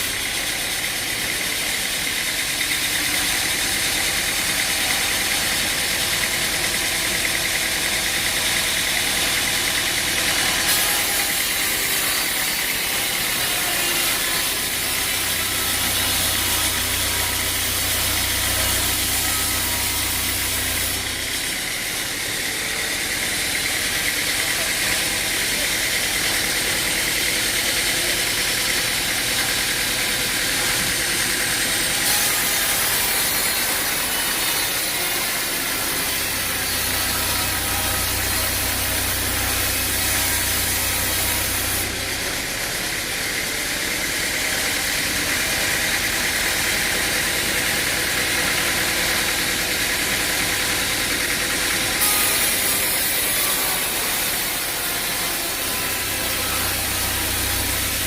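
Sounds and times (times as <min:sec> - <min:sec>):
engine running: 0:00.0 - 0:10.7, 0:14.5 - 0:32.0, 0:35.4 - 0:52.0, 0:54.6 - 0:58.0.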